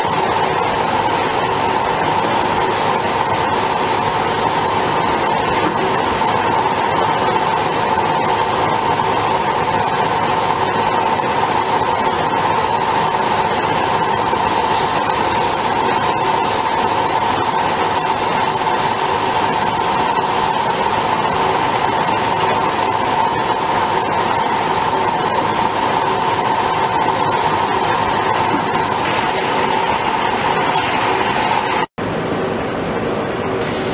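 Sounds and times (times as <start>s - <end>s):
drilling machine drilling metal: 0.0s - 31.9s
high whine: 0.0s - 33.9s.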